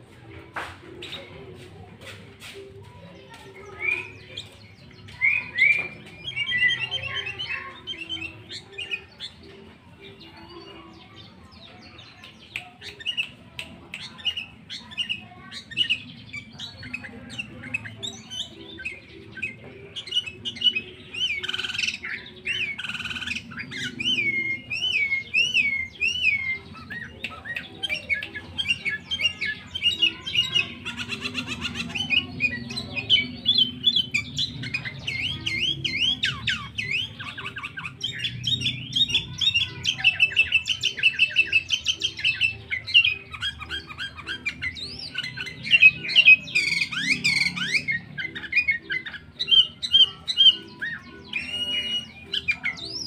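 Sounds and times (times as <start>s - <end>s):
bird chirping: 3.0s - 53.0s
bird whistling up and down: 3.6s - 9.6s, 12.6s - 53.0s.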